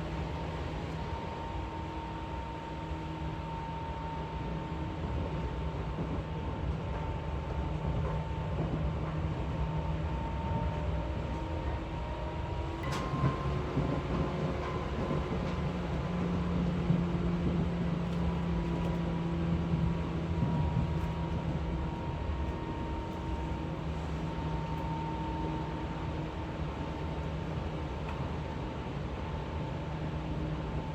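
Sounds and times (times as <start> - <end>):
train rumbling at speed: 0.0 - 30.9.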